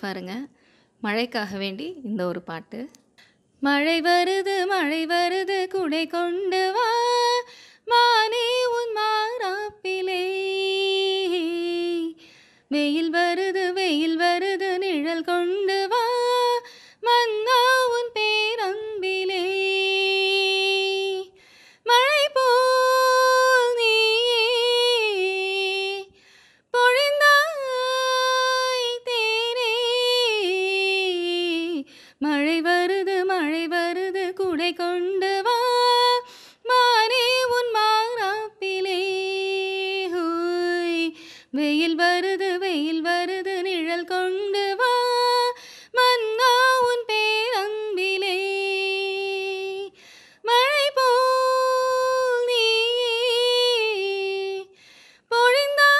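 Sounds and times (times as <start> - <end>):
woman singing unaccompanied: 3.6 - 26.1, 26.8 - 55.9.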